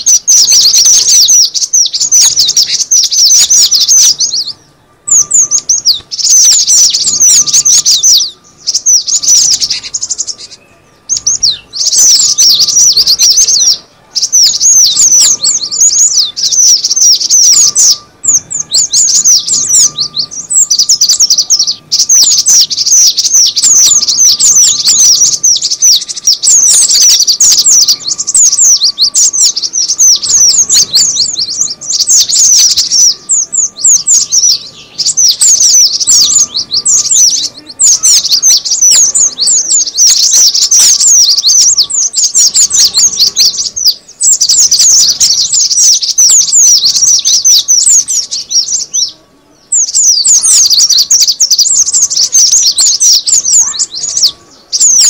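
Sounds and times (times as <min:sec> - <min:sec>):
tit calling high sharp chirps: 0:00.0 - 0:55.0.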